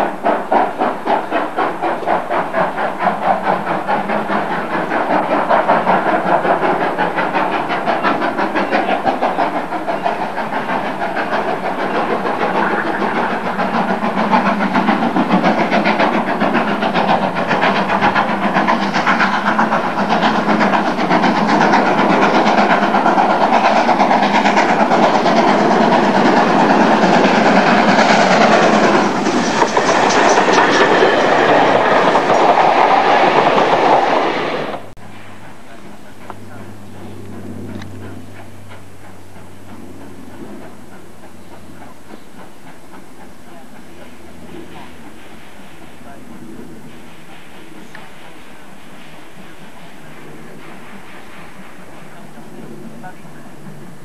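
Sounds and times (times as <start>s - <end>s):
steam locomotive exhaust: 0.0s - 54.0s
train wheels on rails: 0.0s - 54.0s.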